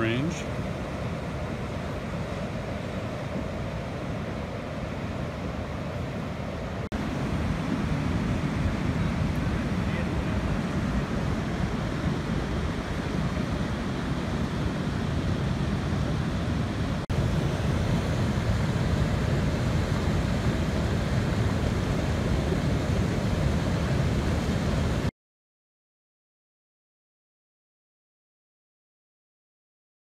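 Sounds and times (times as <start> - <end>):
water rushing heavily: 0.0 - 25.1.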